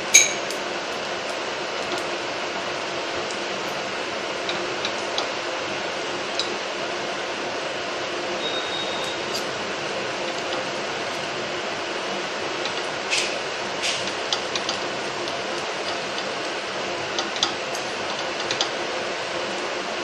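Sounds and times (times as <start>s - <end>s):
food frying in oil: 0.0s - 20.0s.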